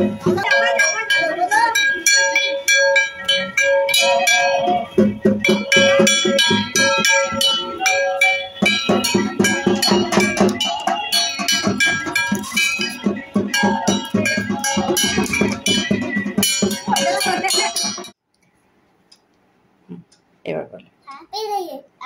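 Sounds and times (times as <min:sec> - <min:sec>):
drum beats: 0:00.0 - 0:18.2.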